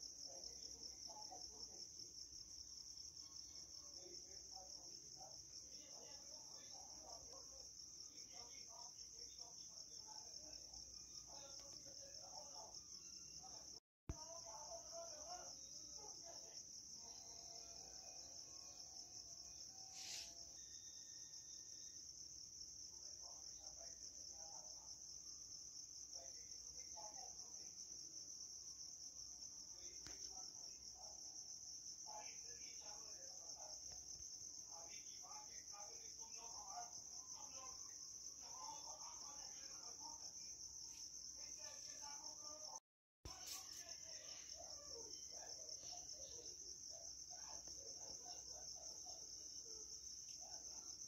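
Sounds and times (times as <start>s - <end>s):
faint background sounds: 0.0s - 51.0s
insects chirring: 0.0s - 51.0s.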